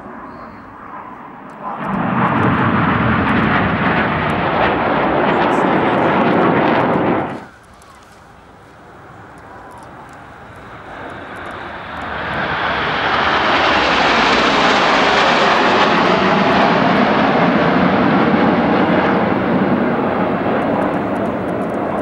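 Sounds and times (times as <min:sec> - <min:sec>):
jets flying past: 0:00.0 - 0:22.0.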